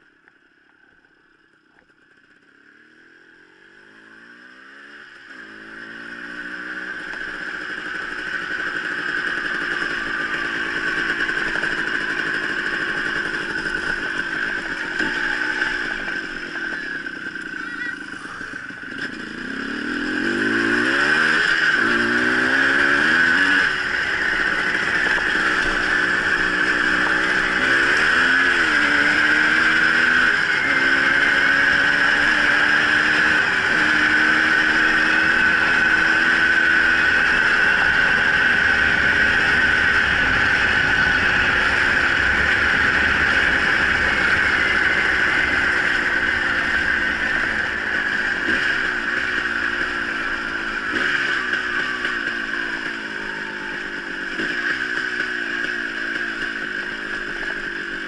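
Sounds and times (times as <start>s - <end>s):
dirt bike engine revving: 2.2s - 58.0s.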